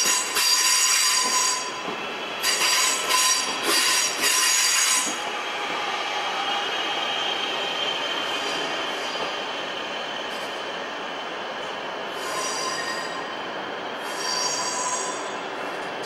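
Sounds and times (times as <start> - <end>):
train rumbling slowly: 0.0 - 16.0
wheels squealing against rails: 0.0 - 16.0.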